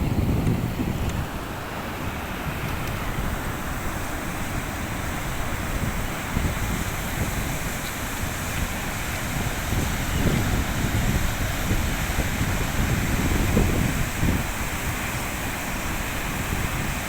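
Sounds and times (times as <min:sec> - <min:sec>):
floodwater rushing: 0:00.0 - 0:17.0
wind buffeting microphone: 0:00.0 - 0:17.0.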